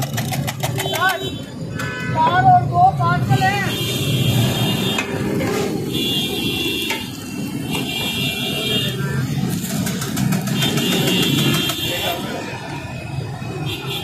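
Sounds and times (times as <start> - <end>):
low rumble of road traffic: 0.0 - 14.0.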